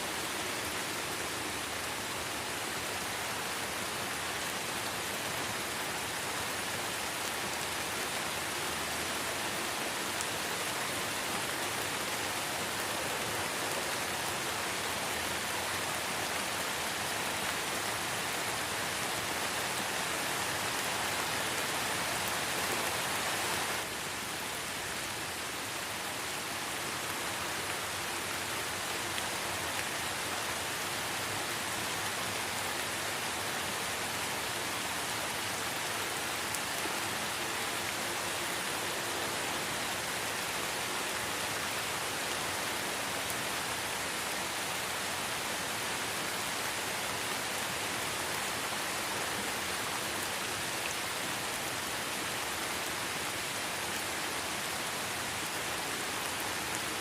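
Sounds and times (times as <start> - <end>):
light rain in forest: 0.0 - 57.0.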